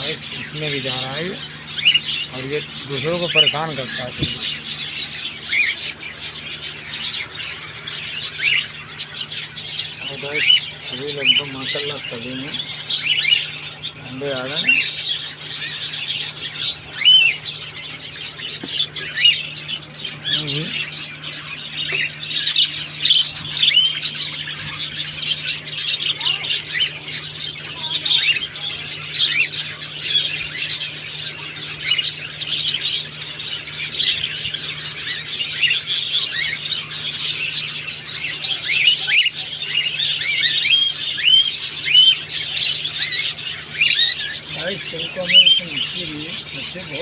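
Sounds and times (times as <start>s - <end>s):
cockatiels chirping and squawking: 0.0s - 47.0s
steady low hum: 0.0s - 47.0s.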